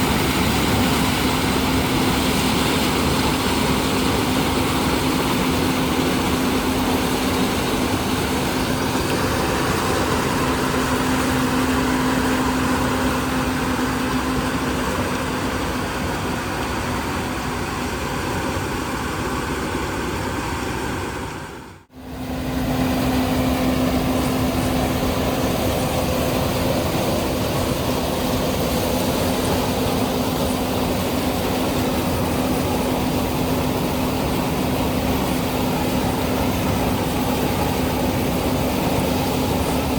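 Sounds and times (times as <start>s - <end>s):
diesel farm machinery droning: 0.0s - 39.9s.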